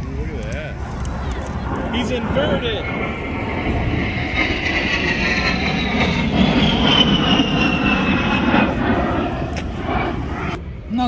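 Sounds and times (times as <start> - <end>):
jet engine whine: 0.0 - 11.0
jet rumble: 0.0 - 11.0.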